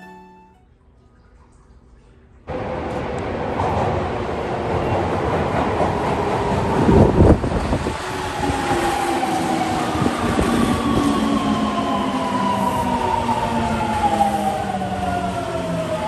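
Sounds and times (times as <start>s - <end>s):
subway train rail noise: 2.5s - 16.0s.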